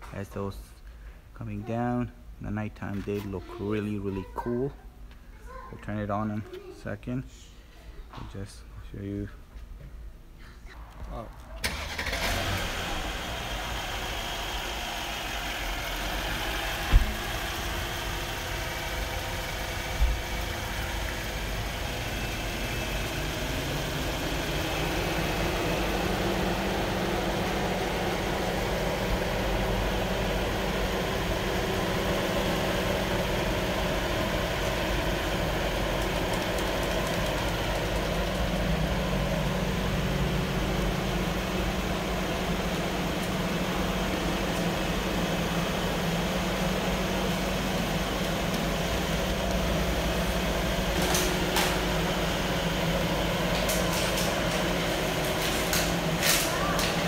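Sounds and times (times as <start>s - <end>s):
car engine idling: 10.8s - 57.0s.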